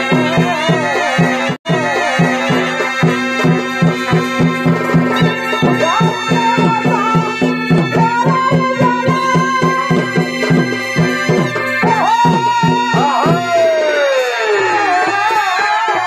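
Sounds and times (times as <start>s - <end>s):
drum beats: 0.0s - 16.0s.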